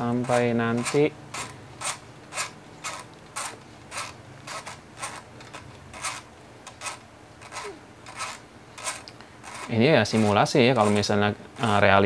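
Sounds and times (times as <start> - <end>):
timer dial rasping clicks: 0.2 - 11.8.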